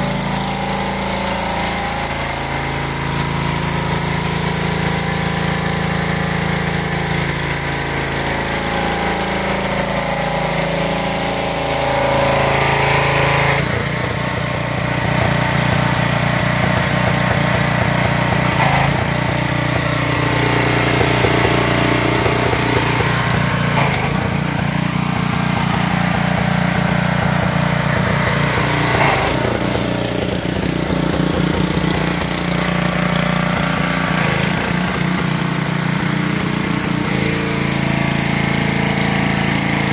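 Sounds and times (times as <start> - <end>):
pressure washer engine running: 0.0 - 39.9
water jet hissing on concrete: 0.0 - 39.9.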